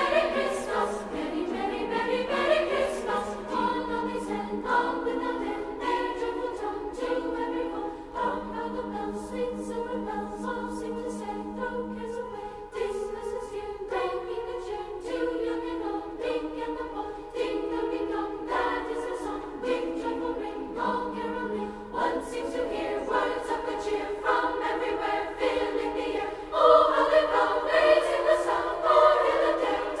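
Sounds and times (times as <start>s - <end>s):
choir singing sustained chords: 0.0s - 30.0s.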